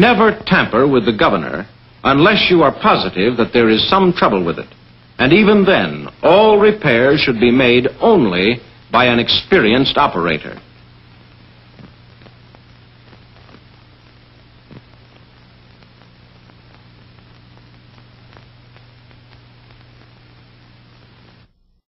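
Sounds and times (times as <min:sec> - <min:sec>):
low hum and hiss: 0:00.0 - 0:21.8.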